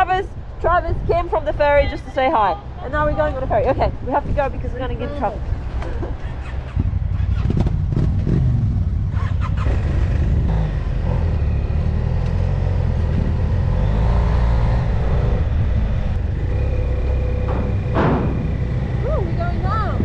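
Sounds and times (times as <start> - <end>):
motorcycle engine rumbling: 2.9 - 20.0.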